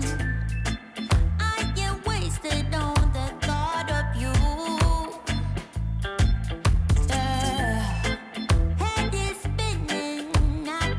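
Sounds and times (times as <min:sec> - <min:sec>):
music with heavy bass line: 0:00.0 - 0:10.9.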